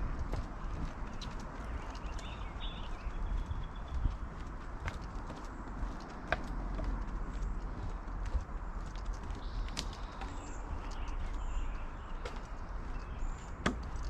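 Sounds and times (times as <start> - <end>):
footsteps on a trail: 0.0 - 14.0.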